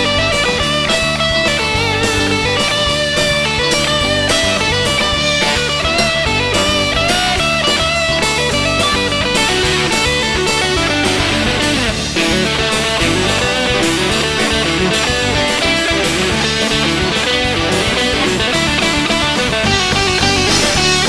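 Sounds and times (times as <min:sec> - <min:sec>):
electric guitar lead melody: 0:00.0 - 0:21.0
steady drum beat: 0:00.0 - 0:21.0.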